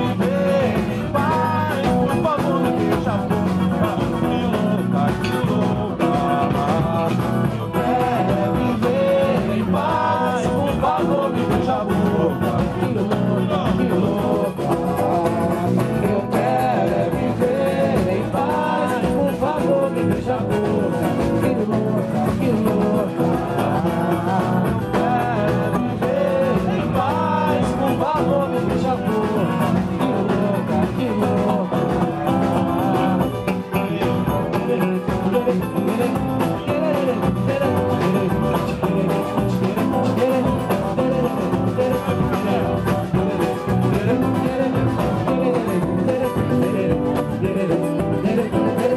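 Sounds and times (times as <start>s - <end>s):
hand drums: 0.0s - 48.9s
person singing: 0.0s - 48.9s
samba band playing: 0.0s - 48.9s.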